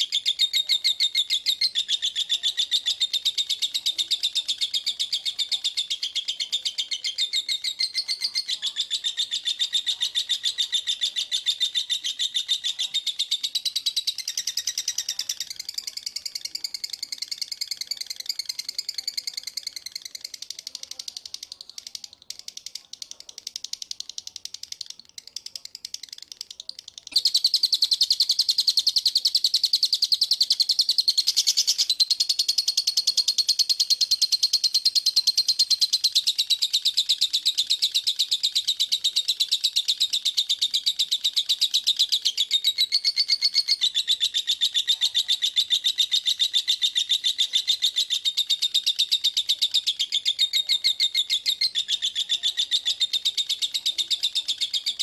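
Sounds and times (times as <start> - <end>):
songbird trilling: 0.0 - 23.0, 23.8 - 55.0.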